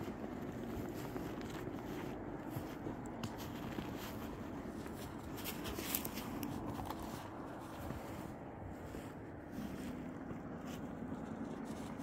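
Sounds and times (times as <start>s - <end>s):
footsteps crunching in snow: 0.0s - 12.0s
low steady rumble: 0.0s - 12.0s.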